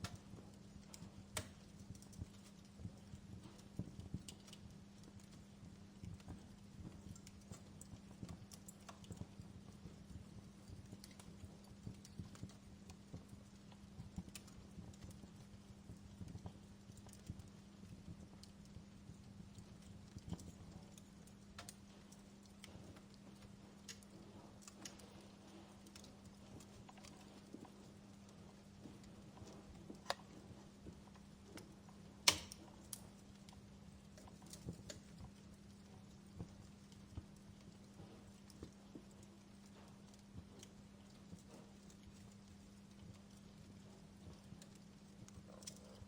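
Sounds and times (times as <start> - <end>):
low steady hum: 0.0 - 46.0
wood fire crackling: 0.0 - 46.0.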